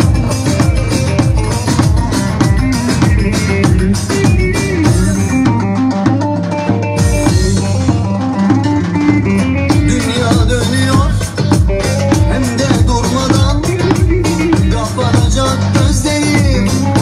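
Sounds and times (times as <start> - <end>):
drum kit beat: 0.0 - 17.0
folk dance music: 0.0 - 17.0
plucked string melody: 0.0 - 17.0.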